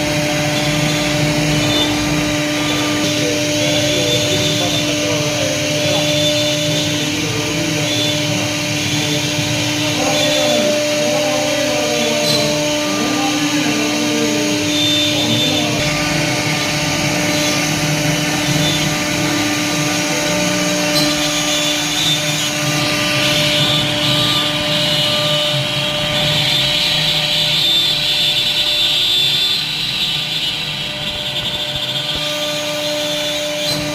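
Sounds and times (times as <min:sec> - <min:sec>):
motor whirs changing pitch: 0:00.0 - 0:33.9
spindle motor whine: 0:00.0 - 0:33.9.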